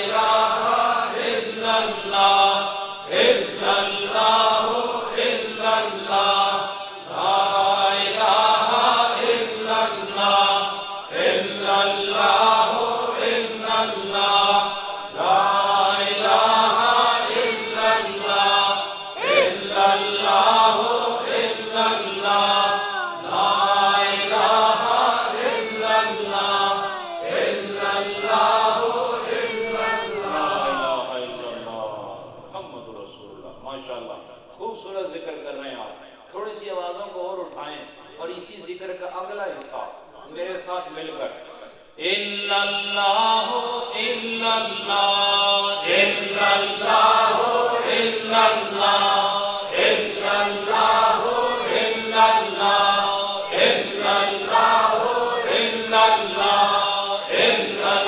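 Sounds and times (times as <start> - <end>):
men chanting together: 0.0 - 31.6, 41.6 - 58.0.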